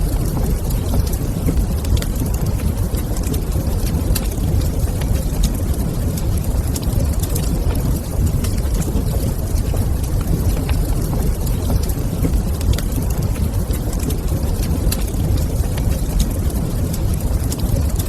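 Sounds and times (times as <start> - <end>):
steady low rumble of fire: 0.0 - 18.0
wood fire crackling and popping: 0.0 - 18.0.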